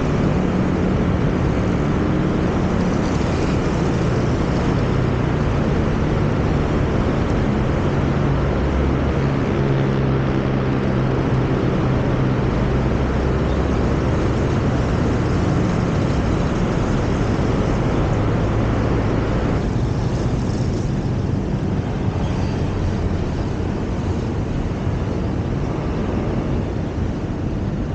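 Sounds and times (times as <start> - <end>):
car engine hum: 0.0 - 27.9
road and tyre noise: 0.0 - 27.9.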